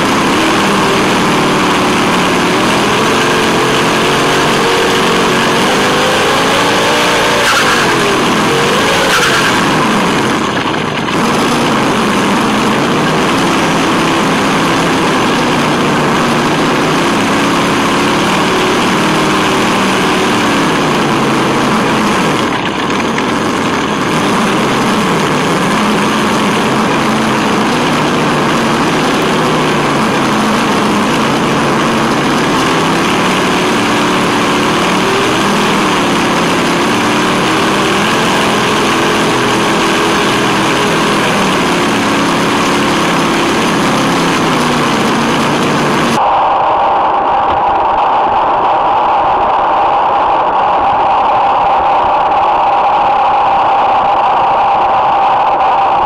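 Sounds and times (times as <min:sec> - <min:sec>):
tyres rushing on asphalt: 0:00.0 - 0:46.4.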